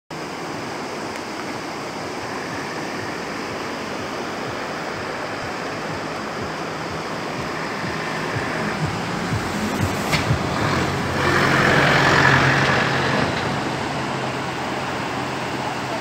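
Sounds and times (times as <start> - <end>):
river rushing: 0.1 - 16.0.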